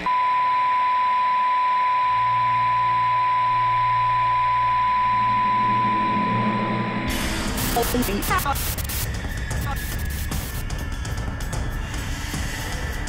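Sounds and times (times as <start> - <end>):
steady test tone: 0.0 - 10.6
low drone: 2.1 - 13.0.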